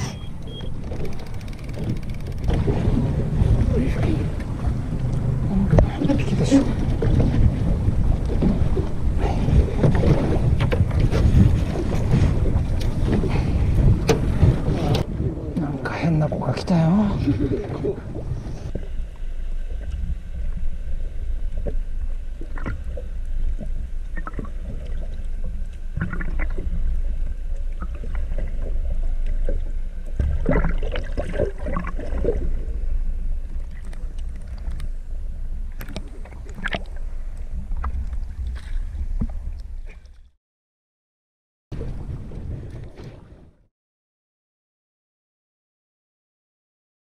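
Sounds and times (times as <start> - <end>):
muffled underwater rumble: 0.0 - 40.3.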